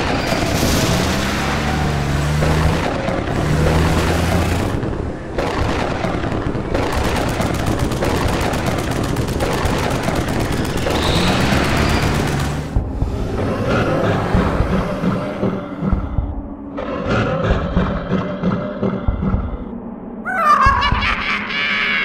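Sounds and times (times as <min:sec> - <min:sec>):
cartoon monster truck engines rumbling: 0:00.0 - 0:19.5
low humming tones: 0:00.0 - 0:21.2.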